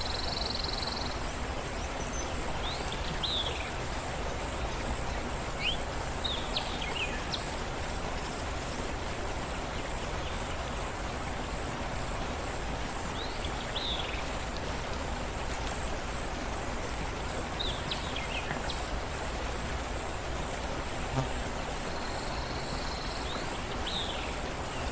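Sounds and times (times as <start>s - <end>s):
water rushing: 0.0s - 24.9s.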